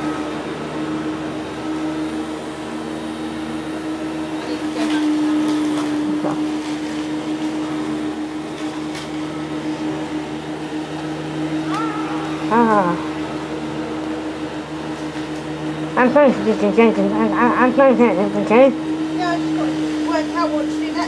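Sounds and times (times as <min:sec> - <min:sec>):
electric motor humming: 0:00.0 - 0:21.0.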